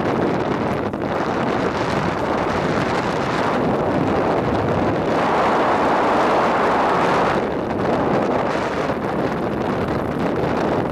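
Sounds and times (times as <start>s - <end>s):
wind rushing over microphone: 0.0s - 10.9s.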